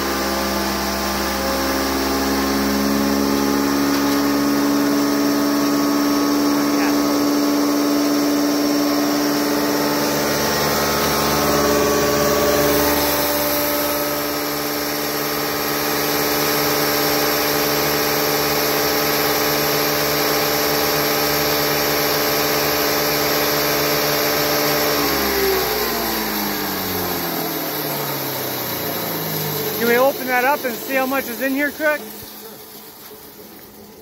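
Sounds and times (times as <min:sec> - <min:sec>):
hammer mill grinding hum: 0:00.0 - 0:34.0
rotor winding down: 0:00.0 - 0:34.0.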